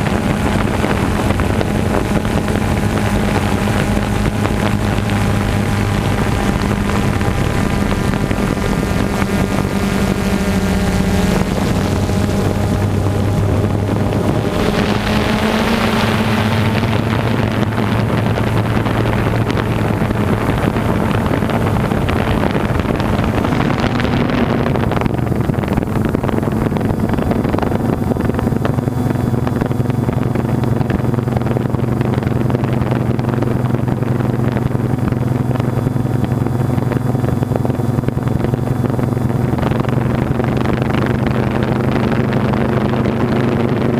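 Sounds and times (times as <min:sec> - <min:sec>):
constant rushing noise: 0:00.0 - 0:43.9
engine hum: 0:00.0 - 0:43.9.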